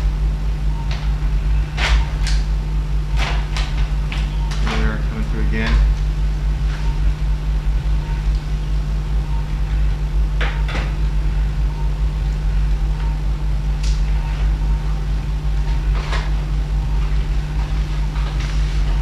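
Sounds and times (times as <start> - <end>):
low hum of medical equipment: 0.0 - 19.0.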